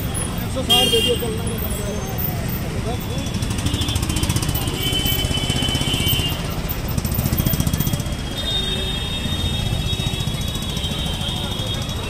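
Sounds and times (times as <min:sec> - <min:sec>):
market street noise: 0:00.0 - 0:12.0.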